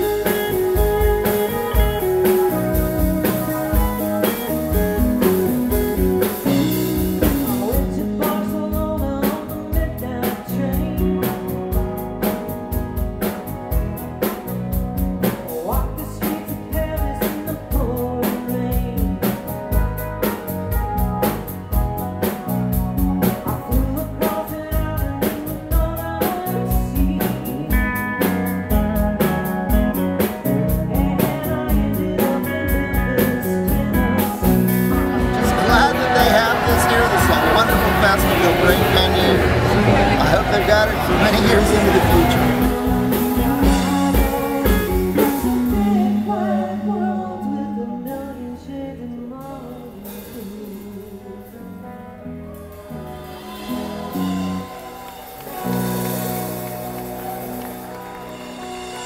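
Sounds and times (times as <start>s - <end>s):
blues band playing: 0.0s - 59.0s.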